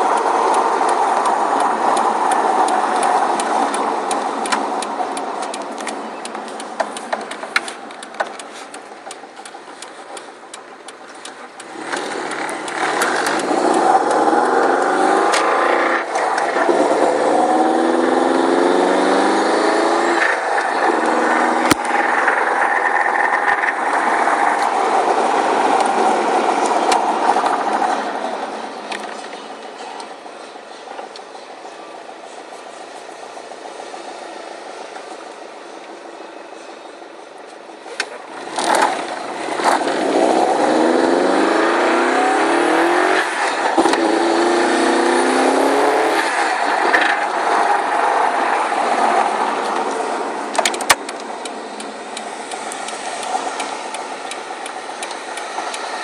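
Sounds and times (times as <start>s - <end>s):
sharp engine clicks: 0.0s - 31.8s, 37.4s - 56.0s
car engine driving: 0.0s - 56.0s.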